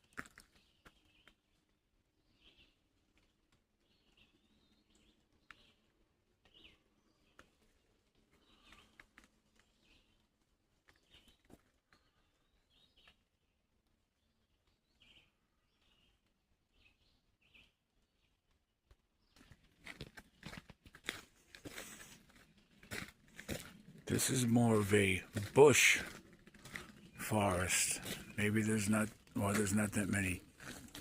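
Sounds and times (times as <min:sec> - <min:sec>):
faint birdsong chirps: 0:00.0 - 0:20.6, 0:21.7 - 0:31.0.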